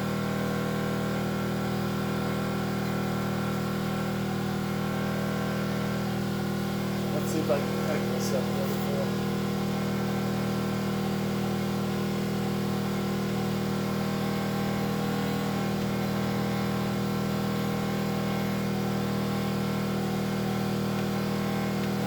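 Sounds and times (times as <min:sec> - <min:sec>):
generator engine humming: 0:00.0 - 0:22.0.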